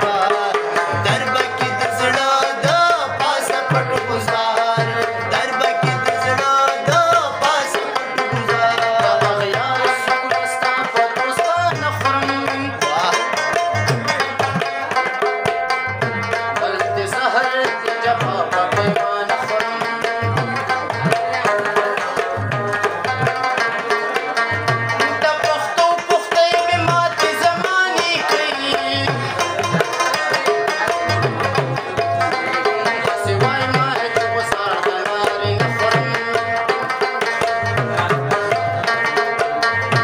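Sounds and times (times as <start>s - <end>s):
rubab strummed and plucked: 0.0s - 40.0s
tabla rhythm: 0.0s - 40.0s.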